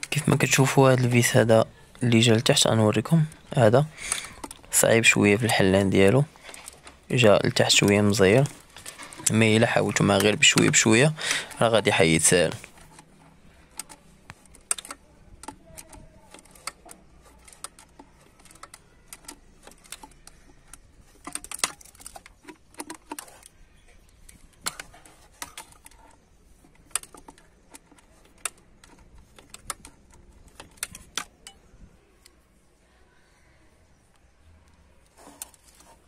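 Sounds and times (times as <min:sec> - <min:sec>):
hand tool tapping plastic and metal: 0:02.4 - 0:32.4.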